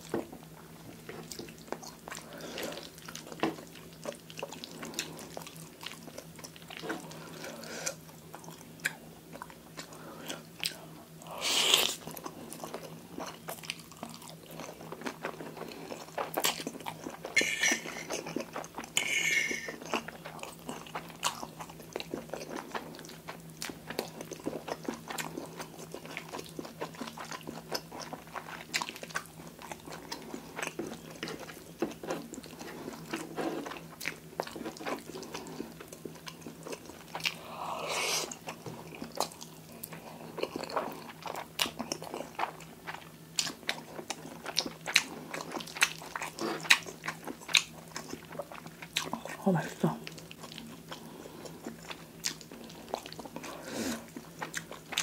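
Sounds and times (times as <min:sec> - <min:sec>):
chewing pasta: 0:00.0 - 0:55.0.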